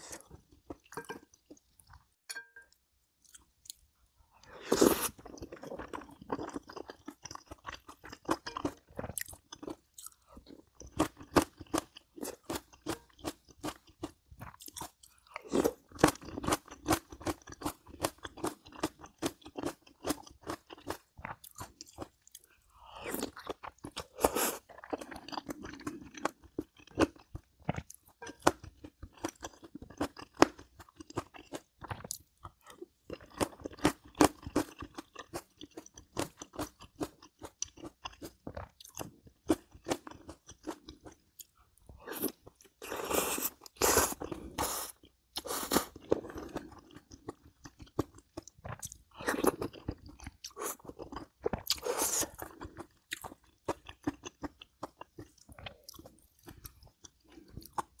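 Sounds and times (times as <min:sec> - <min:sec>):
chewing crunchy food: 0:03.2 - 0:58.0.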